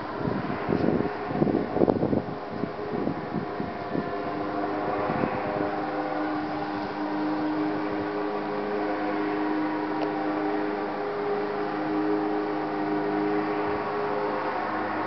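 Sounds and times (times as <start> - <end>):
machine drone: 0.0 - 15.0
wind buffeting microphone: 0.0 - 15.0.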